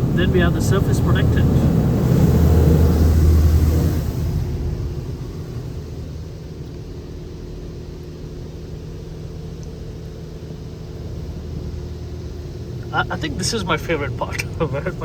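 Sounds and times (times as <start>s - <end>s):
car wash machinery rumble and hum: 0.0s - 15.0s.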